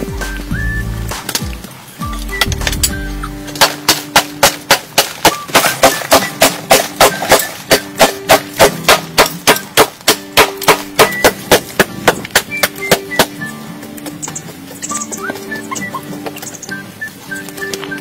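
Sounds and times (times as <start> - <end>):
background music with held notes: 0.0 - 18.0
hoe striking packed soil: 1.1 - 16.8.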